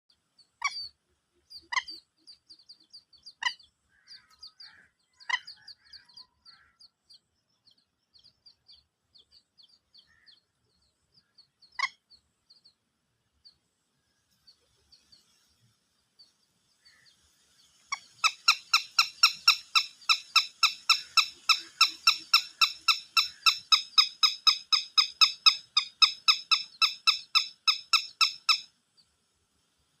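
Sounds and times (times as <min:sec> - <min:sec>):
small birds chirping: 0:00.1 - 0:30.0.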